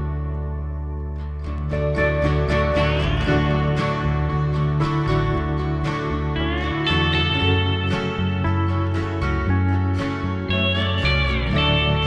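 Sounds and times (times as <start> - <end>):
plucked string notes: 0.0 - 12.0
sustained low bass notes: 0.0 - 12.0.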